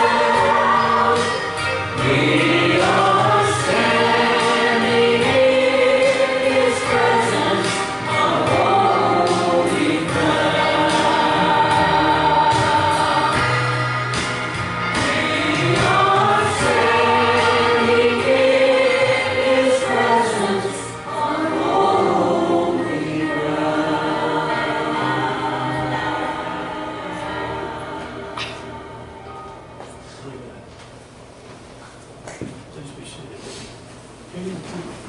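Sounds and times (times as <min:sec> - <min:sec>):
congregation singing: 0:00.0 - 0:29.9
instrumental backing: 0:00.0 - 0:30.6.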